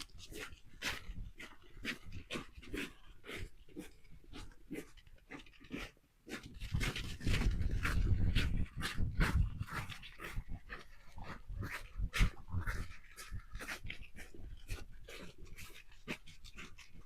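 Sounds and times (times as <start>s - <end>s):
dog panting: 0.2s - 6.5s, 7.4s - 17.0s.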